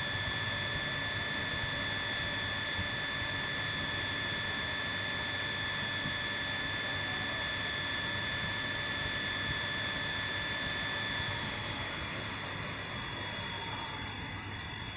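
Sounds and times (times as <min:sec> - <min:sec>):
machine whining with rushing hiss: 0:00.0 - 0:14.9.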